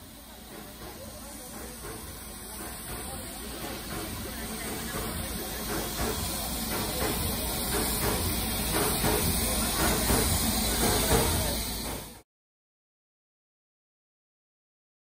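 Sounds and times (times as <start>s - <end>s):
steam hissing: 0.0s - 12.2s.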